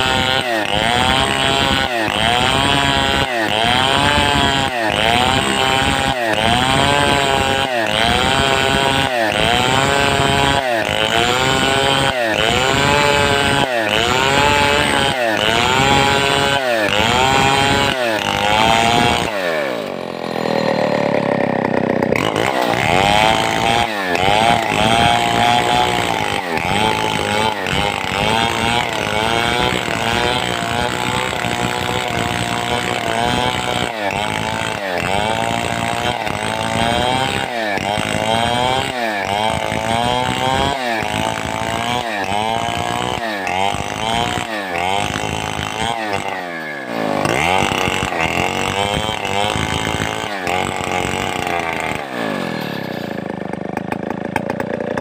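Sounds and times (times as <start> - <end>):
chainsaw cutting under load: 0.0 - 55.0.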